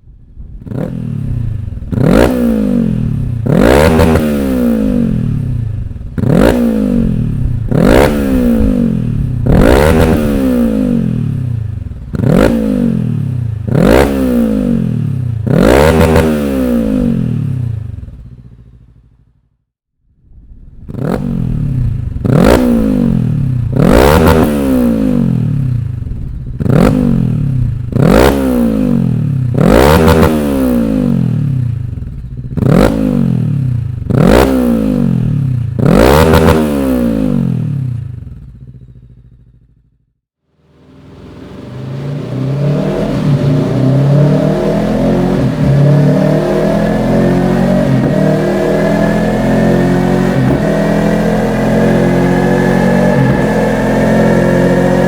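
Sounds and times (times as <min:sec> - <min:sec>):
motorcycle engine revving: 0:00.3 - 0:19.6, 0:20.3 - 0:55.0.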